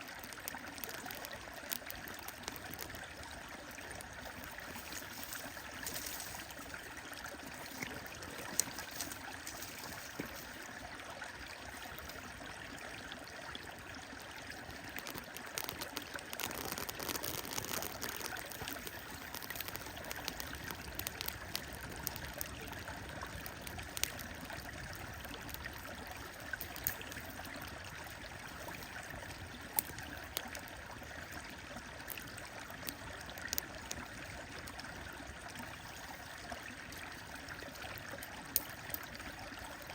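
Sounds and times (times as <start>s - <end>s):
wood fire crackling: 0.0s - 10.8s, 14.4s - 34.9s, 37.0s - 39.8s
stream flowing: 0.0s - 39.9s.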